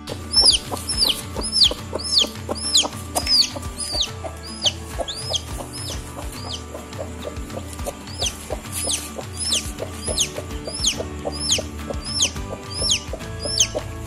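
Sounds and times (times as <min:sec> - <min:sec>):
chick peeping: 0:00.0 - 0:14.0.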